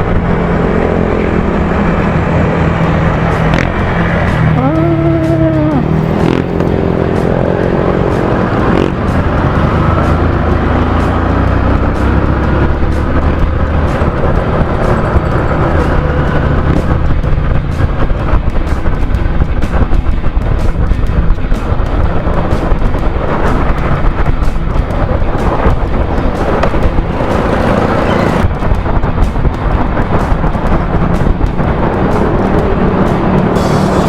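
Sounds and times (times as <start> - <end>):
motorcycle engine running: 0.0 - 34.0
road and wind rumble: 0.0 - 34.0.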